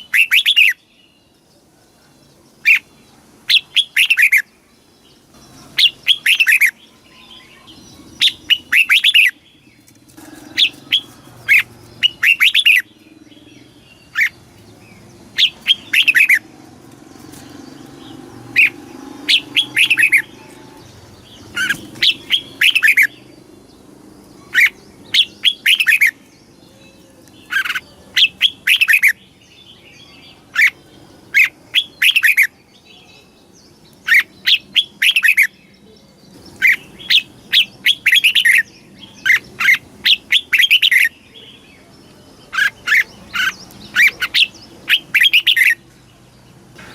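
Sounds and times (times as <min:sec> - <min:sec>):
bird singing whistled notes: 0:00.0 - 0:01.4, 0:03.5 - 0:16.5, 0:17.2 - 0:23.4, 0:24.4 - 0:45.8.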